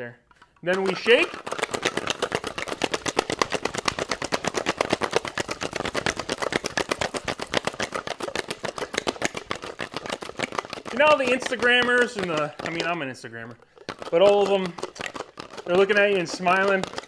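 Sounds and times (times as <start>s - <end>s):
ice cube rattling in cocktail shaker: 0.7s - 17.0s.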